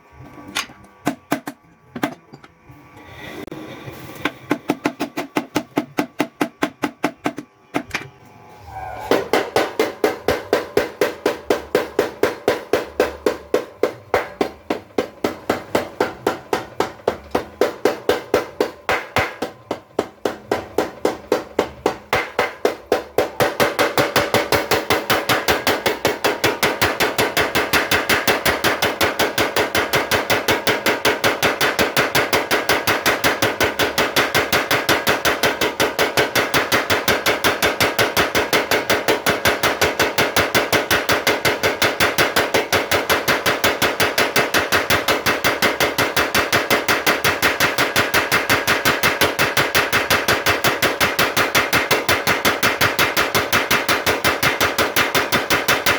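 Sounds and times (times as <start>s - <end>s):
power hammer striking: 0.2s - 2.5s, 4.2s - 8.1s, 8.8s - 55.9s.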